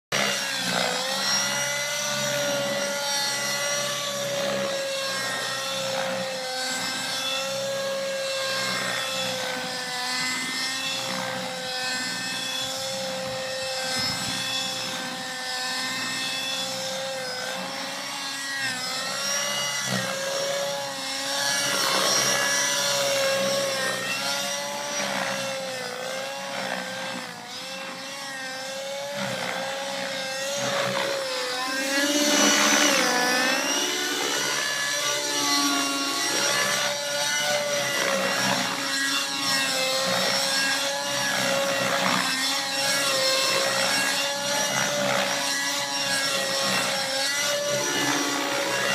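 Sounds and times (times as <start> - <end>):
model helicopter engine whine: 0.1 - 48.9.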